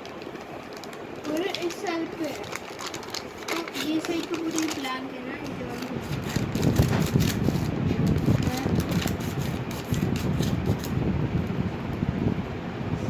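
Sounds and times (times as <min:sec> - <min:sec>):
packaging rustling and crackling: 0:00.0 - 0:11.0.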